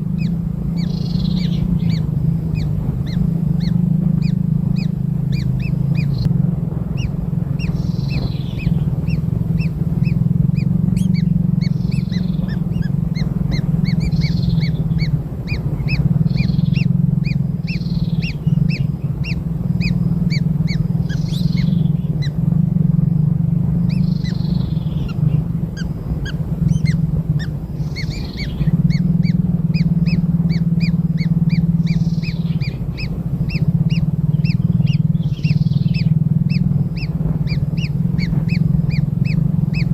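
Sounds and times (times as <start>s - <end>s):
chicks begging chirps: 0.0s - 6.3s, 6.9s - 39.9s
short raspy calls: 0.0s - 6.3s, 6.9s - 22.5s, 23.8s - 39.9s
loud low hum: 0.0s - 39.9s.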